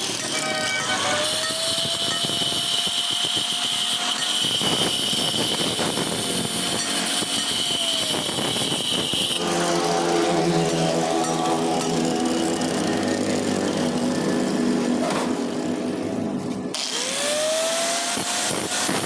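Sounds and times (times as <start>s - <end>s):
machinery whining and buzzing: 0.0s - 19.0s.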